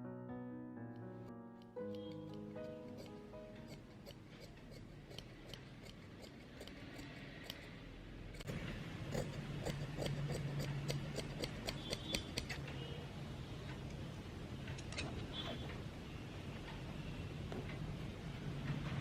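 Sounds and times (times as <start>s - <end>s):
room background noise: 0.1s - 19.0s.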